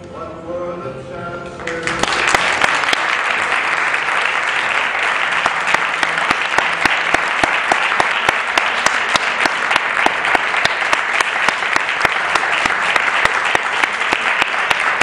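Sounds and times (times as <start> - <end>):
audience applauding: 1.6 - 15.0.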